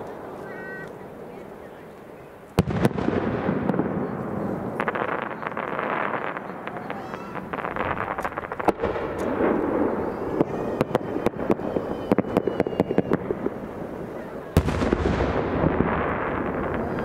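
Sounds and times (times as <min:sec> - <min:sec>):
firework cracks and pops: 0:00.0 - 0:17.0
deep firework boom: 0:02.6 - 0:17.0.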